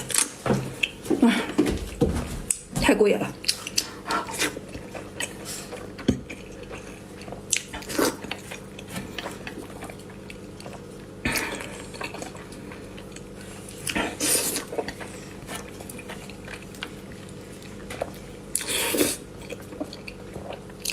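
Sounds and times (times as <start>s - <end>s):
chewing and mouth noises: 3.4s - 20.9s.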